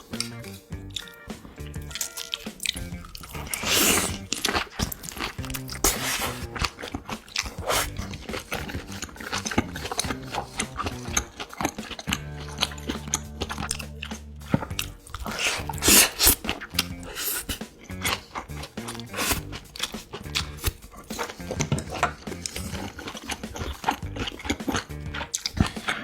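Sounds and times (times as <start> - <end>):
background music: 0.0 - 26.0
person chewing crunchy food: 0.0 - 26.0.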